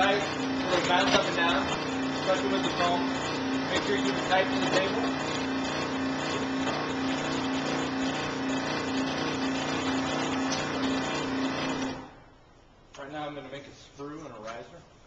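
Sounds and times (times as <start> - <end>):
scroll saw cutting foam: 0.0 - 12.1.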